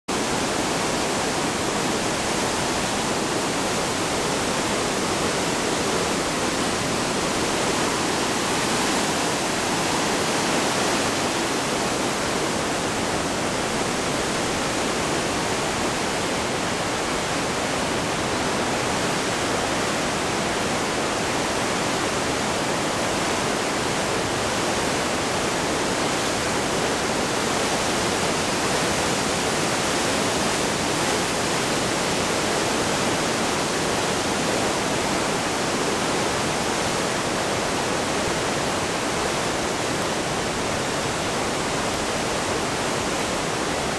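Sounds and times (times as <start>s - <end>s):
river rushing through gorge: 0.1s - 43.9s.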